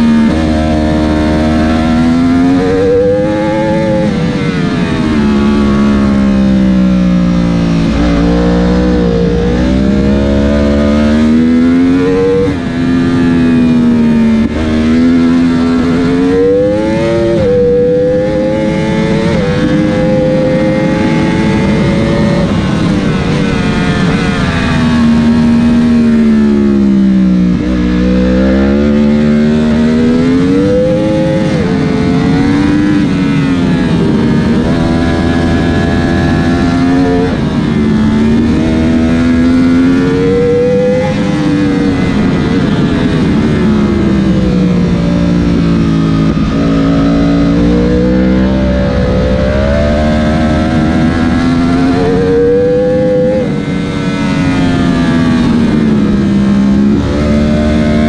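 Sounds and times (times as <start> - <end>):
superbike engine accelerating: 0.0 - 58.0
wind rush: 0.0 - 58.0.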